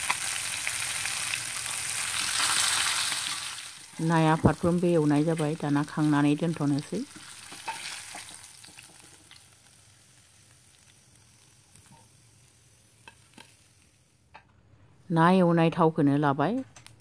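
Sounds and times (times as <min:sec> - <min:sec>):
fish sizzling in hot oil: 0:00.0 - 0:14.3.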